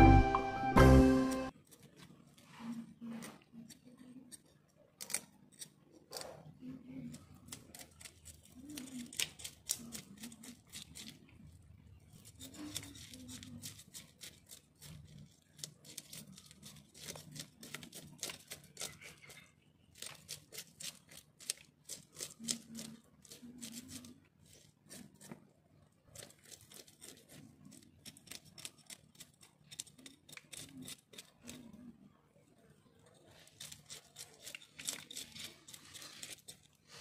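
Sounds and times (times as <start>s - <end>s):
snipping and scraping fish: 1.6s - 32.1s, 33.0s - 37.0s.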